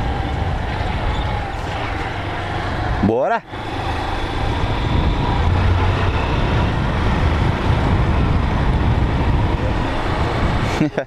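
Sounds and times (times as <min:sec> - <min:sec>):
wind noise on microphone: 0:00.0 - 0:03.0, 0:03.6 - 0:11.0
motorcycle engine drone: 0:00.0 - 0:11.0.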